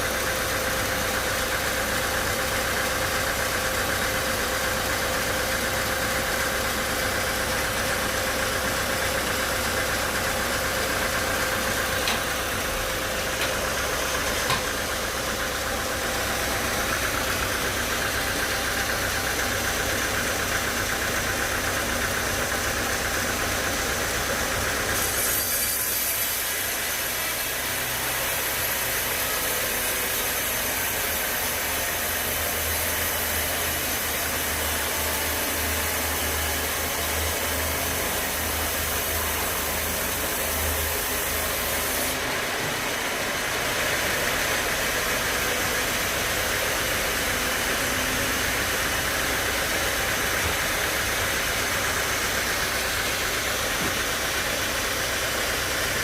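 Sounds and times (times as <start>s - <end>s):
sawmill machinery noise: 0.0s - 56.0s.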